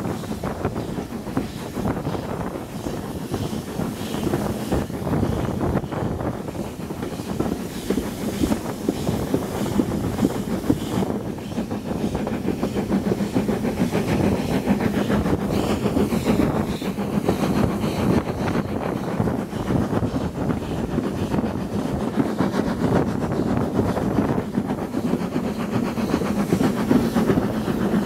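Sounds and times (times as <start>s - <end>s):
steam hissing: 0.0s - 28.0s
train wheels clattering on rails: 0.0s - 28.0s.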